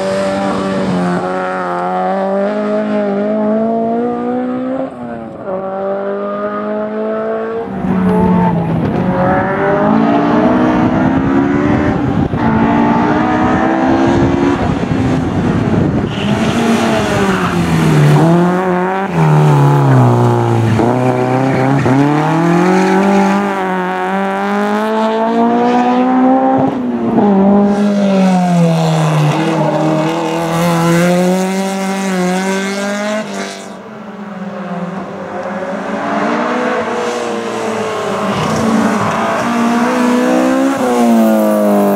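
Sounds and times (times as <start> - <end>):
race car engine revving: 0.0 - 33.8.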